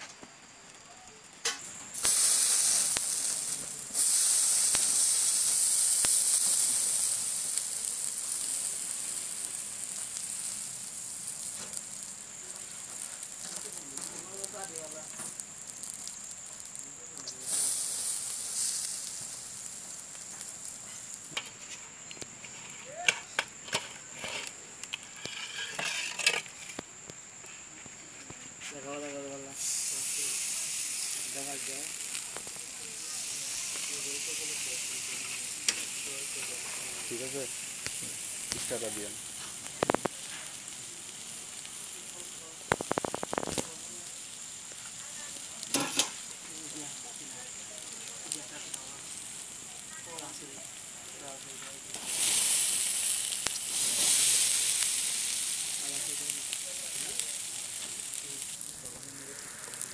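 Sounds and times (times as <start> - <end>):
charcoal hissing and sizzling: 0.0 - 59.9
sharp crackles: 0.0 - 59.9.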